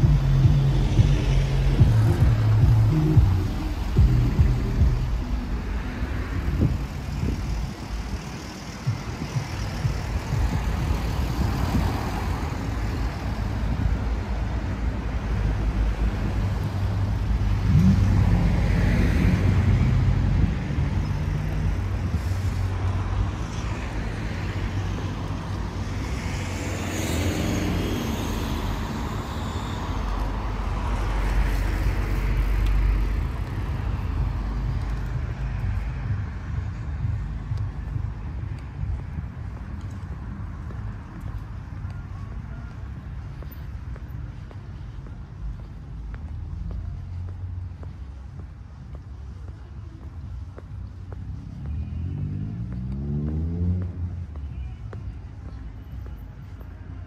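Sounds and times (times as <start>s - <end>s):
cars passing: 0.0s - 57.0s
low traffic rumble: 0.0s - 57.0s.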